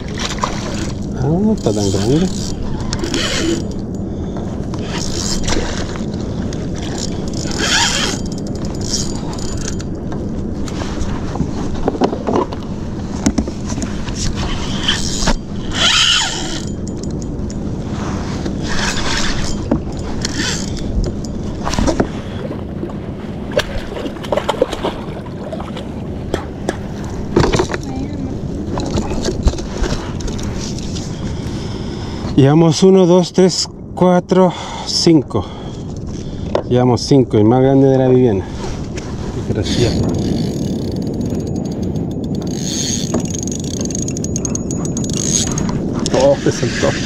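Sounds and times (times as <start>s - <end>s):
water lapping against kayak: 0.0s - 32.4s, 38.4s - 47.0s
wind rumbling on microphone: 0.0s - 47.0s.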